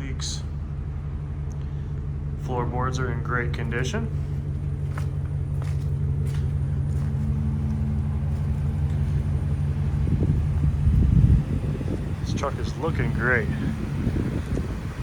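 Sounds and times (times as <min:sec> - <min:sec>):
engine idling: 0:00.0 - 0:15.0
rough engine rumble: 0:00.0 - 0:15.0.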